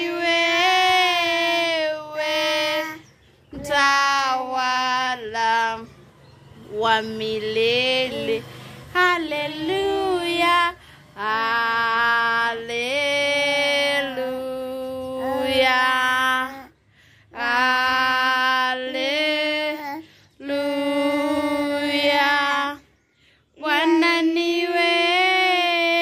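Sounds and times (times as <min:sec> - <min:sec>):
woman singing unaccompanied: 0:00.0 - 0:26.0.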